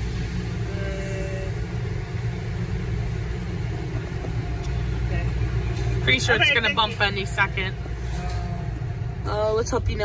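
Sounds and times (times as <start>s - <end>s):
car idling: 0.0s - 10.0s.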